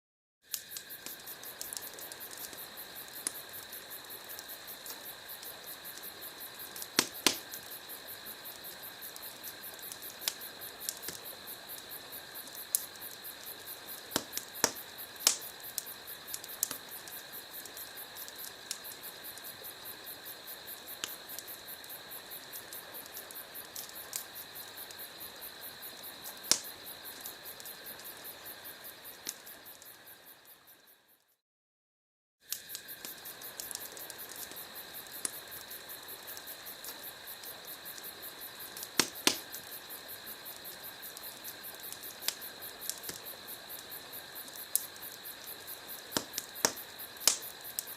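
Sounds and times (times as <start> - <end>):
insects chirring: 0.4 - 31.4, 32.4 - 47.9
campfire crackling and popping: 0.5 - 30.6, 32.4 - 47.9.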